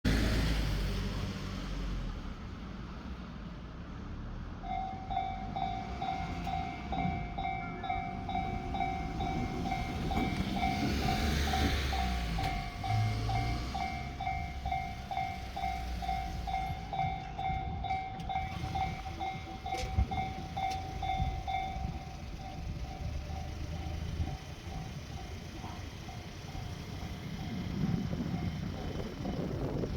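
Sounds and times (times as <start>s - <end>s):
train rumbling past: 0.1s - 29.9s
level crossing alarm bell: 4.6s - 29.3s.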